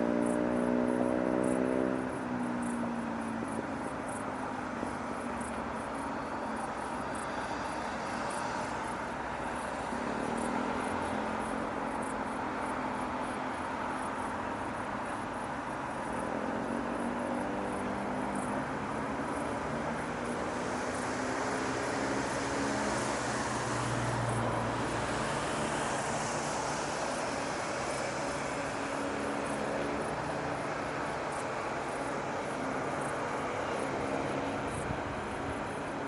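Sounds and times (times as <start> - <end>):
city traffic hum: 0.0 - 36.0
vehicles driving past: 0.0 - 36.0.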